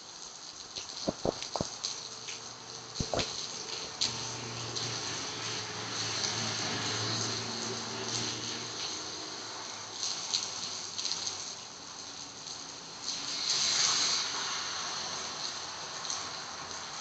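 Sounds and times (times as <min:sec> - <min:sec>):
heavy rain hissing on road: 0:00.0 - 0:17.0.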